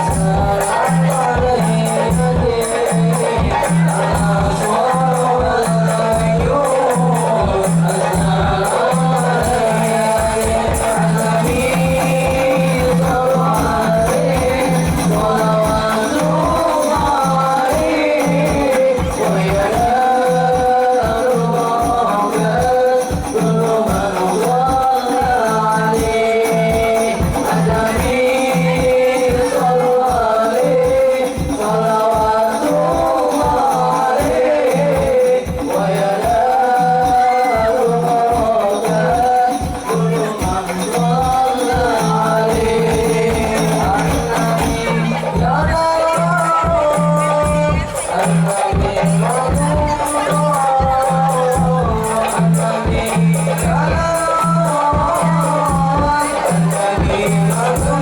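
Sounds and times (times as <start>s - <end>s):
frame drums beating: 0.0s - 58.0s
person singing a melody: 0.0s - 58.0s.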